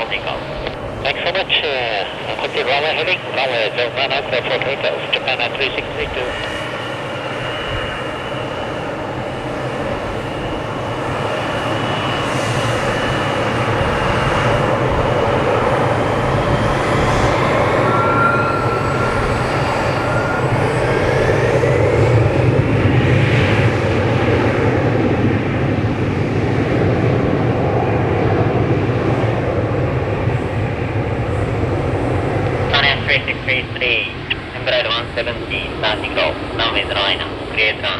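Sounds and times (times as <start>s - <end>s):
jet airliner taking off: 0.0s - 37.9s.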